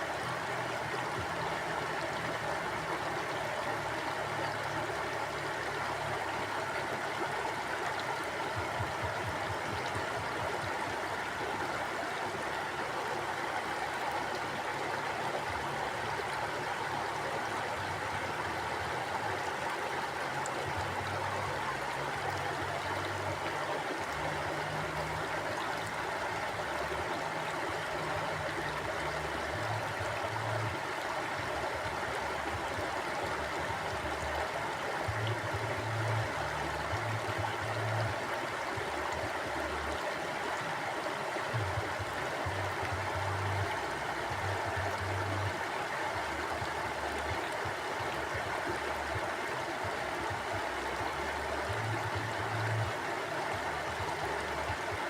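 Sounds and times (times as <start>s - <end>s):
stream running water: 0.0s - 55.0s.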